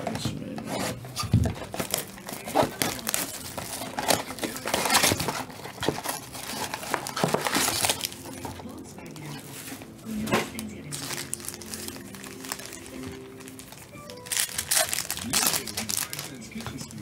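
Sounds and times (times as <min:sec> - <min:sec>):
wrappers tearing and crinkling: 0:00.7 - 0:17.0.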